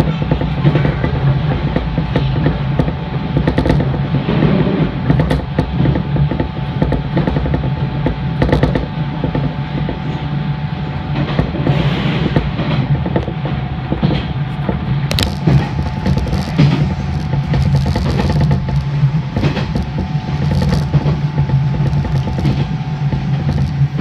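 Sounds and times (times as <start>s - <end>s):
faint motor hum: 0.0s - 24.0s
train rumble: 0.0s - 24.0s
wheels clacking over rail joints: 0.0s - 24.0s.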